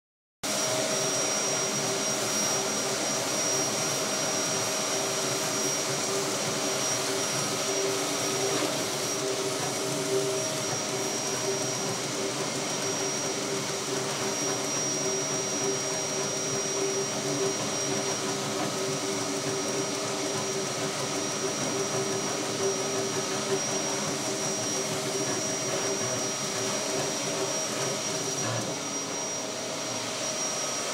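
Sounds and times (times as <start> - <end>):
constant whining tones: 0.5 - 30.9
laser cutter fans rushing air: 0.5 - 30.9.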